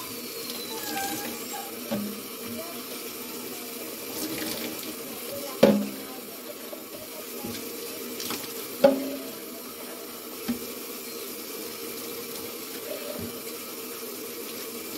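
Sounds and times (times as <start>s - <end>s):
faucet running into sink: 0.0s - 14.9s.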